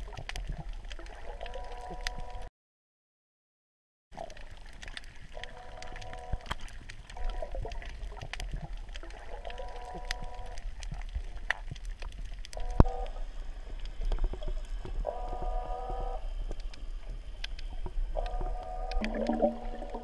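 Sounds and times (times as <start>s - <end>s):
water noise: 0.0s - 2.5s, 4.2s - 20.0s.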